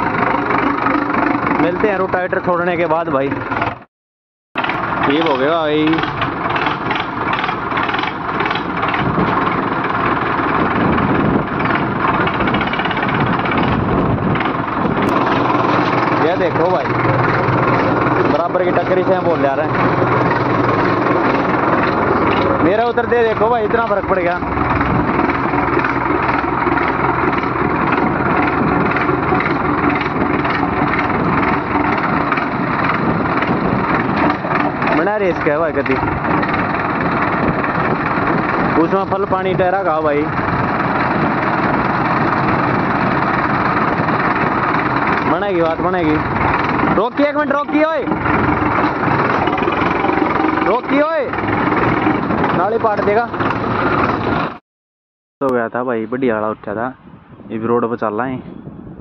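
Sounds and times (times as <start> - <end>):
tractor diesel engines under heavy load: 0.0 - 3.9, 4.6 - 54.6.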